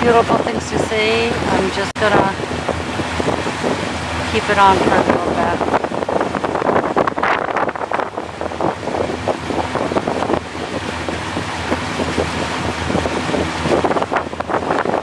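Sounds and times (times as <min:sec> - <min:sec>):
motorboat engine drone: 0:00.0 - 0:15.0
wind buffeting microphone: 0:00.0 - 0:15.0.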